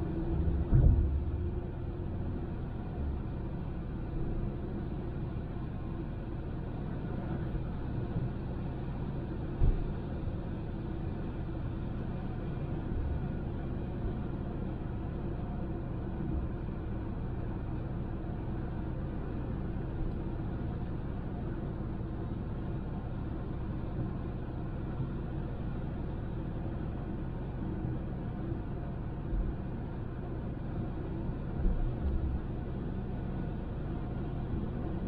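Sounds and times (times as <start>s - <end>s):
car tyre and engine rumble: 0.0s - 35.0s.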